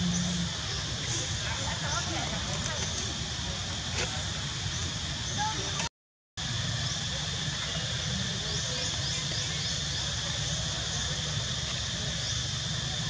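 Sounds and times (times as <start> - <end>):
high insect drone: 0.0 - 5.8, 6.4 - 13.0.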